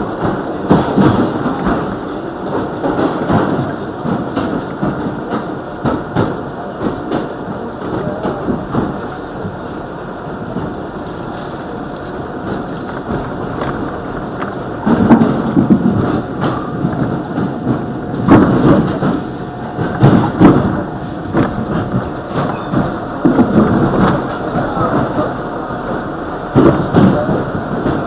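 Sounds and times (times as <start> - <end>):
wheels knocking and clattering: 0.0 - 9.7, 10.3 - 28.0
subway wheels rumbling on rail: 0.0 - 28.0.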